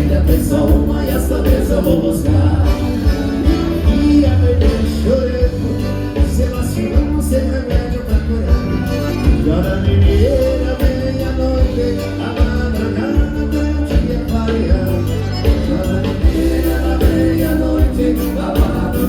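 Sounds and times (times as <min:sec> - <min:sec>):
accordion dance band playing: 0:00.0 - 0:19.0.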